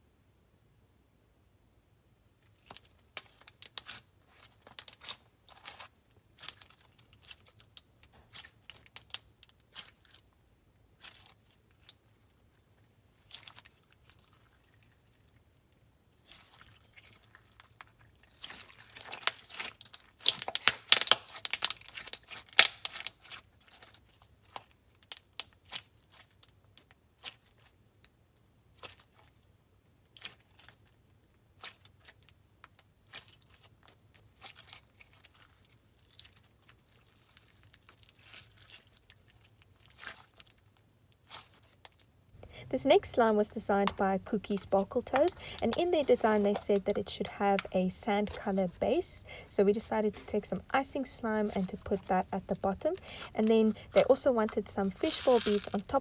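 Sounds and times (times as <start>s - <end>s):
slime with beads crackling: 2.5s - 28.1s, 28.7s - 29.5s, 30.1s - 56.0s.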